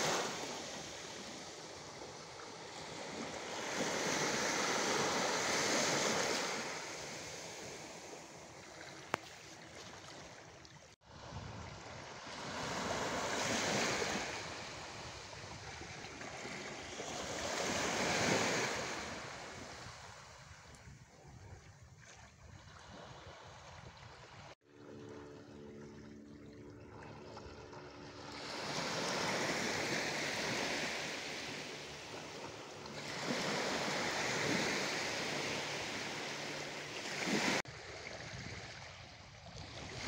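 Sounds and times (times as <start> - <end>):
small waves washing on shore: 0.0 - 40.0.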